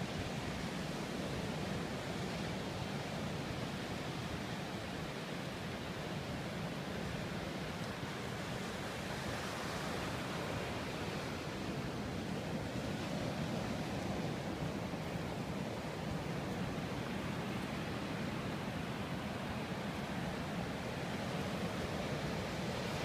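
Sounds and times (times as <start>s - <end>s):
ocean surf washing onto beach: 0.0s - 23.0s
wind: 0.0s - 23.0s.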